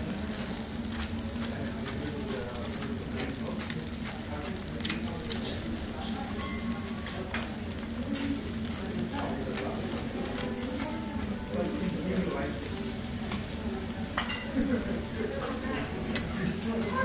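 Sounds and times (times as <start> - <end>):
steak sizzling on a griddle: 0.0 - 17.0.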